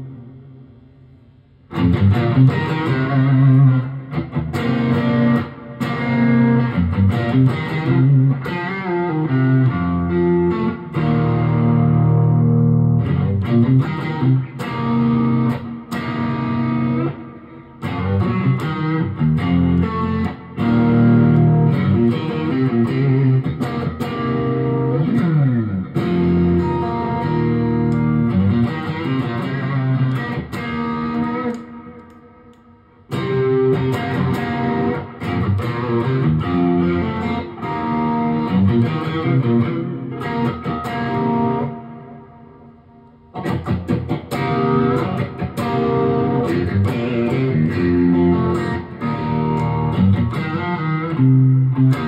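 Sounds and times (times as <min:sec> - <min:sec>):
overdriven electric guitar lead: 0:00.0 - 0:01.0, 0:01.7 - 0:52.0.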